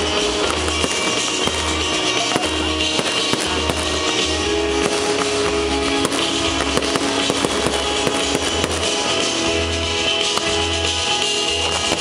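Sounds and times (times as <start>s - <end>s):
fireworks popping and crackling: 0.0s - 12.0s
loud show music with bass: 0.0s - 12.0s.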